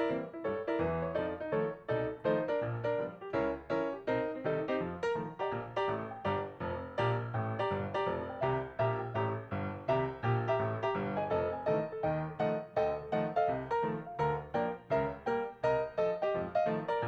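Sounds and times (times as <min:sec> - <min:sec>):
solo piano playing: 0:00.0 - 0:17.0.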